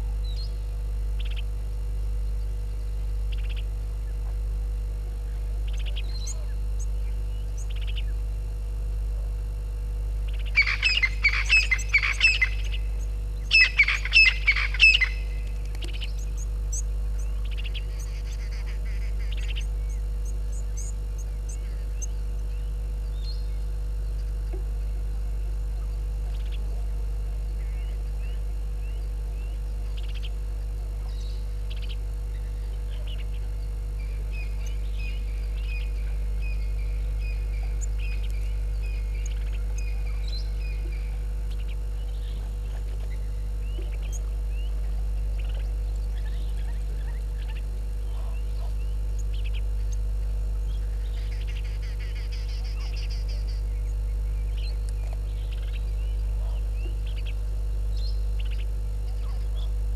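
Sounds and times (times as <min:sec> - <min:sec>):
steady low hum: 0:00.0 - 0:59.9
birds chirping: 0:05.1 - 0:08.4, 0:10.2 - 0:59.9.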